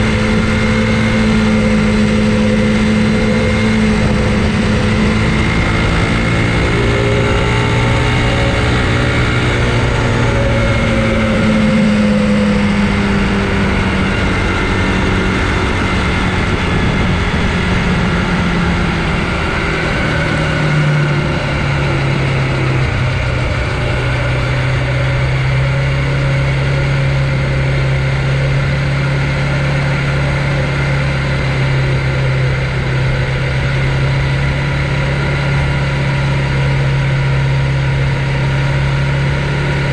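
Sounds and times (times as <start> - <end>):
bike riding rumble: 0.0 - 39.9
humming motor drone: 0.0 - 39.9.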